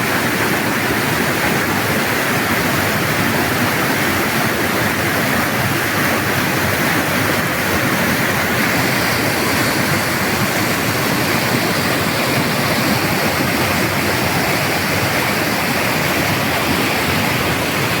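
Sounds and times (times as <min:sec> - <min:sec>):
waterfall: 0:00.0 - 0:18.0.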